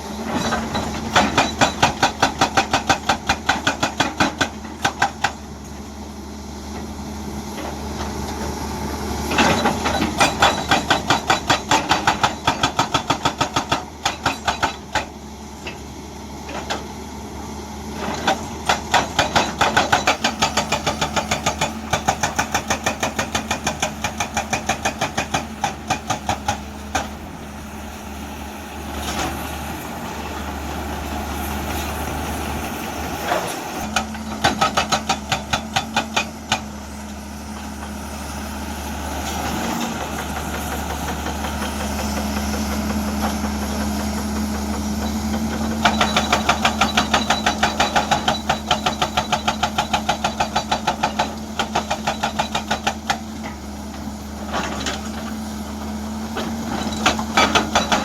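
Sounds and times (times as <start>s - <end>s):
hydraulic breaker pounding rock: 0.0s - 6.0s, 6.7s - 17.1s, 17.9s - 58.0s
diesel engine running: 0.0s - 58.0s.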